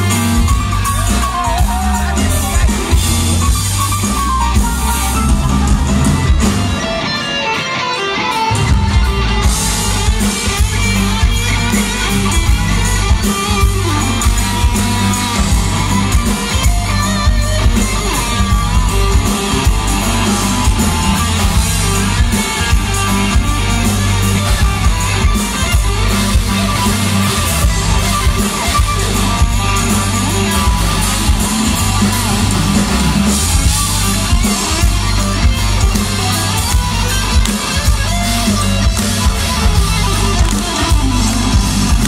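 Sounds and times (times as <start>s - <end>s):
electric guitar: 0.0s - 42.0s
rock band playing live: 0.0s - 42.0s.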